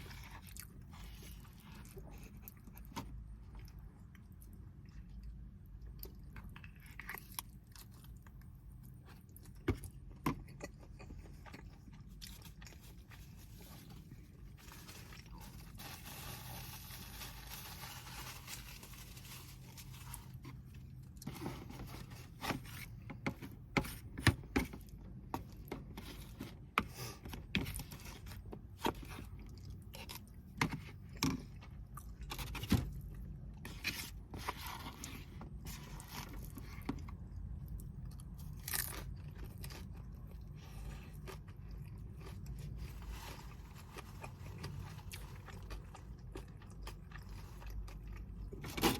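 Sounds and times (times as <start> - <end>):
chewing and crunching: 0.0 - 48.9.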